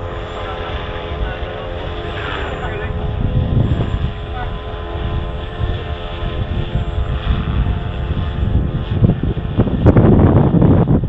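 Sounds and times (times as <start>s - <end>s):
model helicopter rotor whine: 0.0s - 11.0s
wind buffeting microphone: 0.0s - 11.0s.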